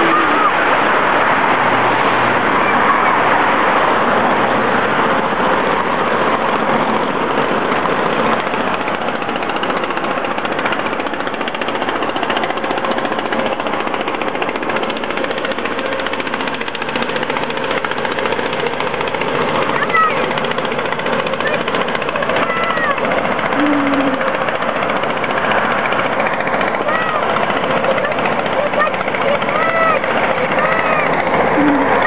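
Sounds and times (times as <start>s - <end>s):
diesel engine knocking: 0.0s - 32.0s.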